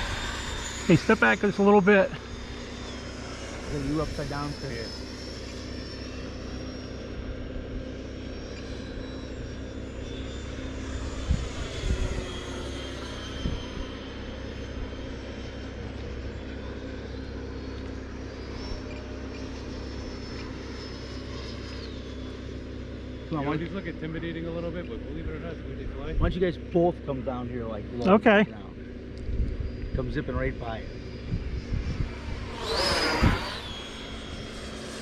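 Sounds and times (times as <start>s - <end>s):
model jets whining: 0.0s - 35.0s.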